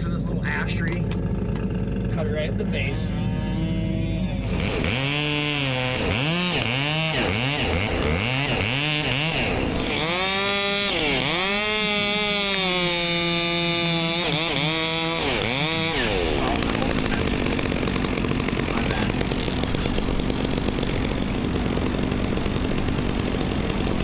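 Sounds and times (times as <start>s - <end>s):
chainsaw revving and cutting: 1.2s - 2.2s, 3.0s - 24.0s.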